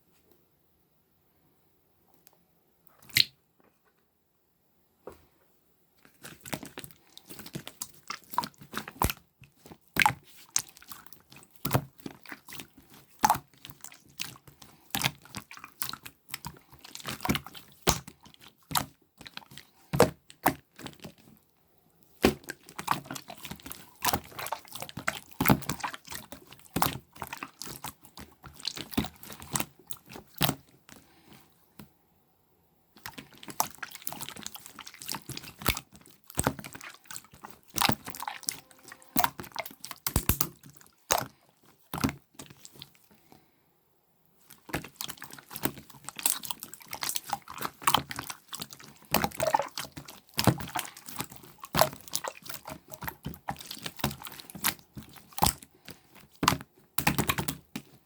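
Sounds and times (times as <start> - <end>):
slime squeezed with sticky pops: 3.0 - 3.4, 6.1 - 21.3, 22.1 - 31.0, 33.0 - 43.0, 44.5 - 58.0.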